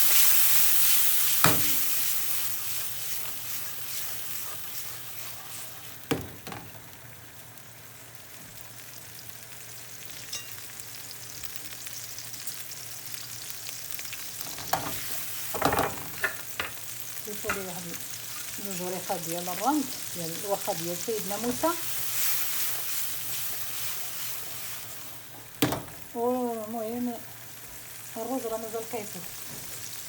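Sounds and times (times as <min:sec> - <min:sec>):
shrimp sizzling in a frying pan: 0:00.0 - 0:30.0.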